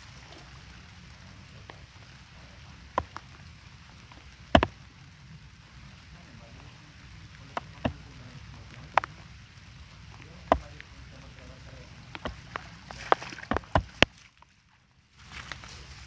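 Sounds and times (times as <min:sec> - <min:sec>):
raindrops tapping close by: 0:00.0 - 0:16.0
steady rain: 0:00.0 - 0:16.0.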